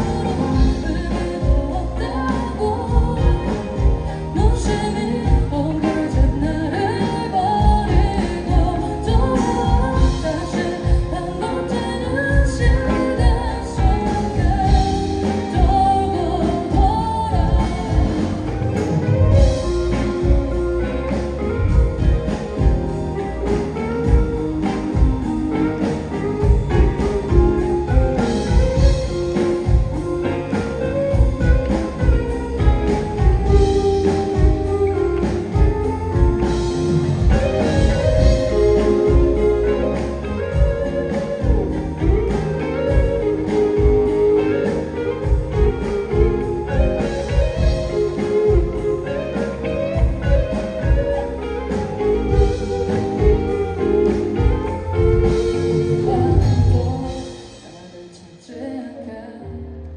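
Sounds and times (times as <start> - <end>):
drums: 0.0 - 58.9
electric guitar: 0.0 - 59.9
person singing: 0.0 - 59.9.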